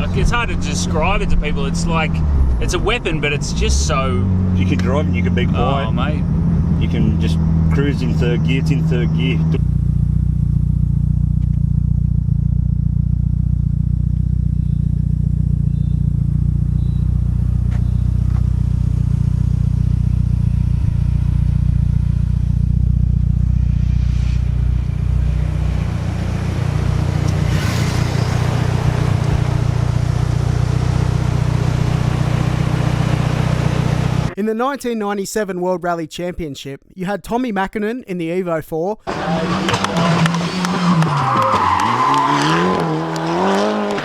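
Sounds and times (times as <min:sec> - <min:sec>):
car engine droning in cabin: 0:00.0 - 0:34.4, 0:39.1 - 0:44.0.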